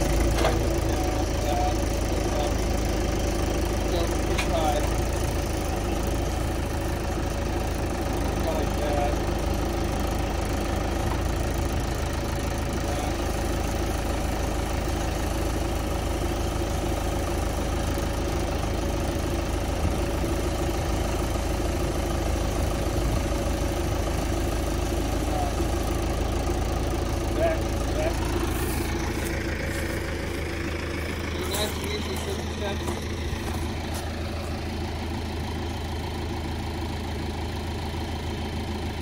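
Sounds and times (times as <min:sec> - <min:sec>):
tractor diesel engine idling: 0:00.0 - 0:39.0.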